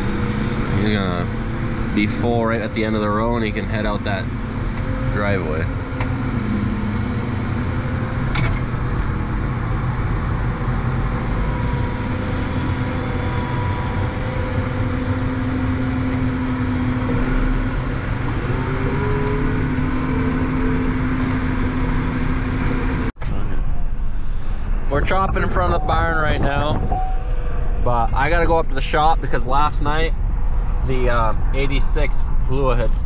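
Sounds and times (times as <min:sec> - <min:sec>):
diesel engines droning: 0:00.0 - 0:33.0.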